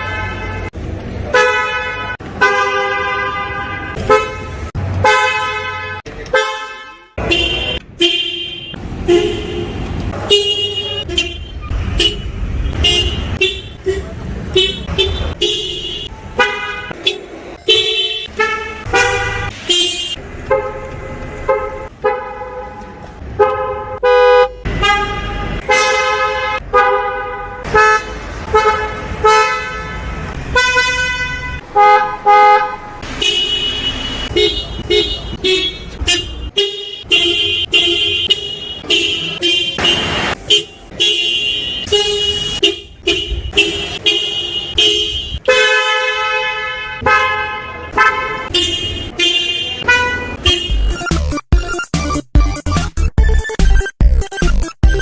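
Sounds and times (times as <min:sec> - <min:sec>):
car horns honking: 0:00.0 - 0:55.0.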